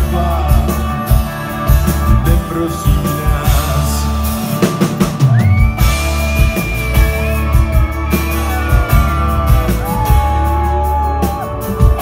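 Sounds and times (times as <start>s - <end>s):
rock band playing: 0.0s - 12.0s
sliding lead guitar notes: 0.0s - 12.0s.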